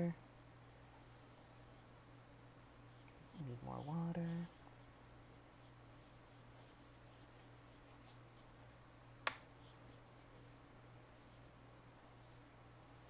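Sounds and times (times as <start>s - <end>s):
low steady hum: 0.0s - 13.0s
brush strokes on paper: 0.6s - 2.0s, 2.9s - 8.6s, 9.6s - 13.0s.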